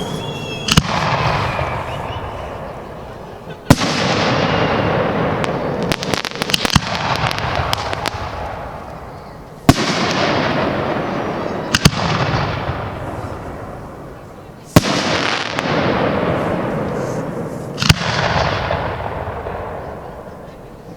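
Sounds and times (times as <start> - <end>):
firework sharp cracks: 0.0 - 20.4
firework crackling tail: 0.0 - 20.5.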